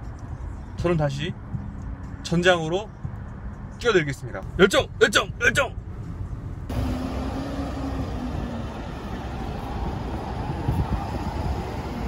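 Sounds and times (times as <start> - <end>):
cars moving on city road: 0.0 - 12.0.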